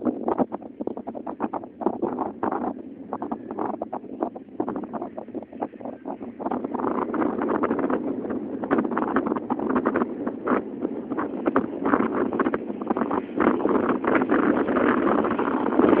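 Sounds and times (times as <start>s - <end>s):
jet engine noise: 0.0s - 16.0s
wind buffeting microphone: 0.0s - 16.0s.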